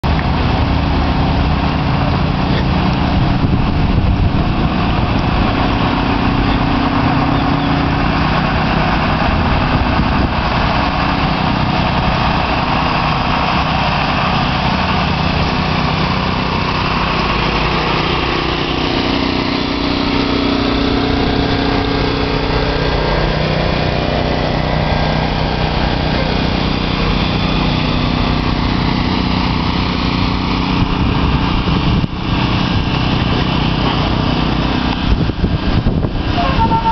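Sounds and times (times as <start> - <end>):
tow truck engines running: 0.0 - 36.9.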